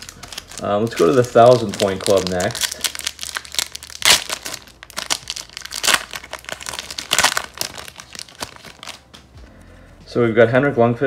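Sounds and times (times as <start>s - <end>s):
plastic wrapper crinkling: 0.0s - 9.2s.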